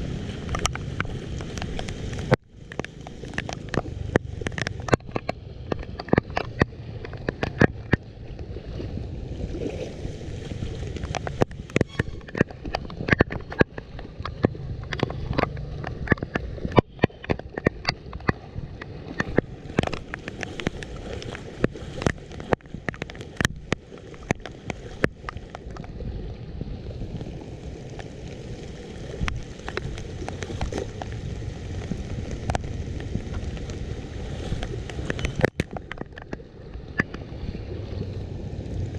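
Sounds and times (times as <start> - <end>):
floodwater gurgling at street drain: 0.0 - 38.9
sharp splashes and clicks: 0.0 - 38.9.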